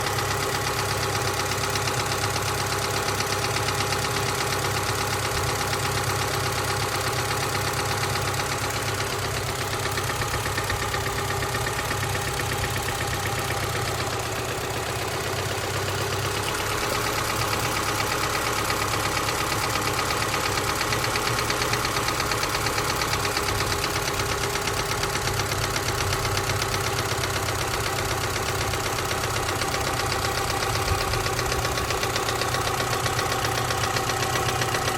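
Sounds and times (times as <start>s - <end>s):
car engine running: 0.0s - 34.9s
fast regular engine knocking: 0.0s - 34.9s.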